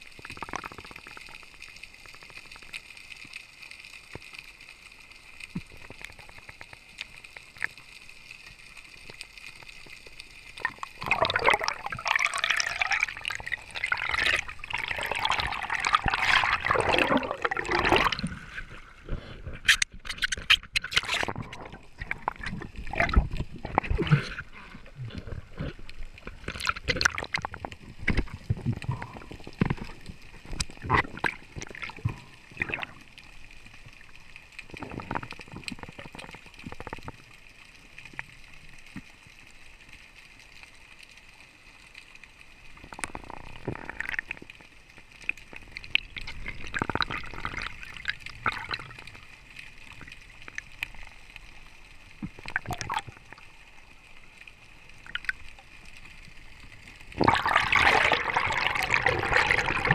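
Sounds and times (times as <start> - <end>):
water sloshing and gurgling: 0.0 - 39.1, 42.5 - 59.9.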